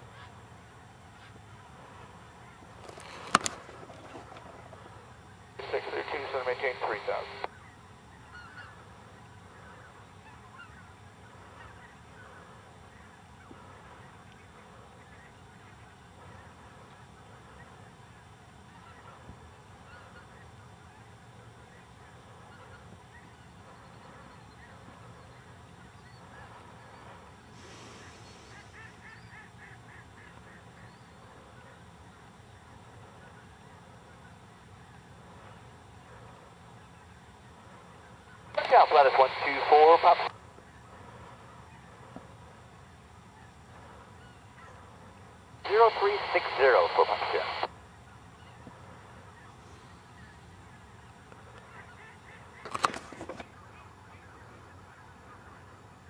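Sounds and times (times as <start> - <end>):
distant geese honking: 0.0 - 56.0
low steady hum: 0.0 - 56.0.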